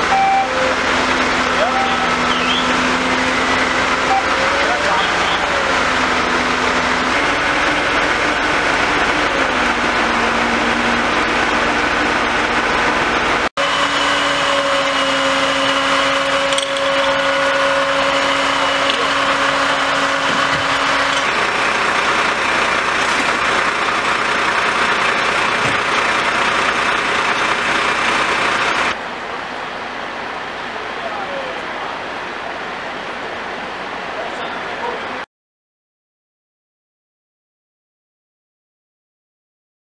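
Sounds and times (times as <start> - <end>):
fire engines droning: 0.0 - 35.3.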